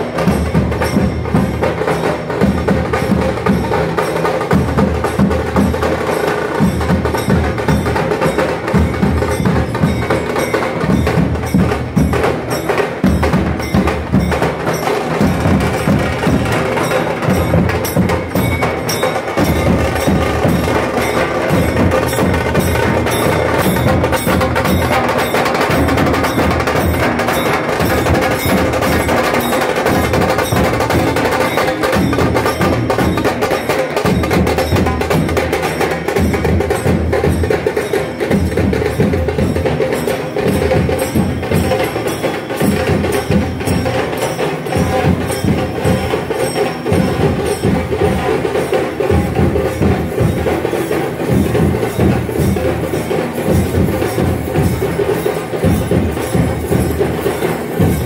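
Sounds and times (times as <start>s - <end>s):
deep barrel drum beats: 0.0s - 58.0s
rapid small drum strokes: 0.0s - 58.0s.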